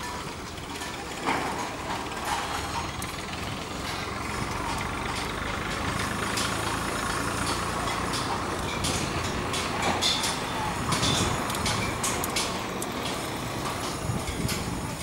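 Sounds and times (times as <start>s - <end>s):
machinery engine humming: 0.0s - 15.0s.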